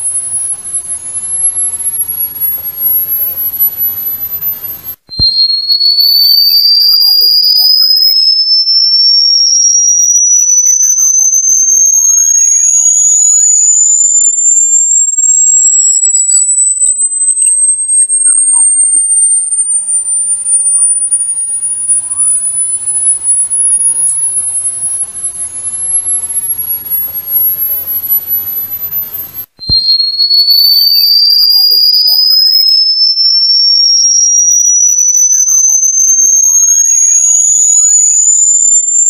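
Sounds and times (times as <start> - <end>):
high-pitched electronic sweeping tone: 0.0 - 39.0.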